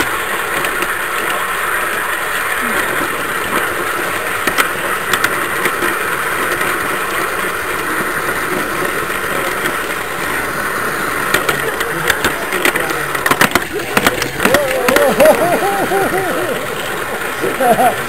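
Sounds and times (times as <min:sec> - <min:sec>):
model train running on track: 0:00.0 - 0:18.0
wheels clicking over rail joints: 0:00.0 - 0:18.0.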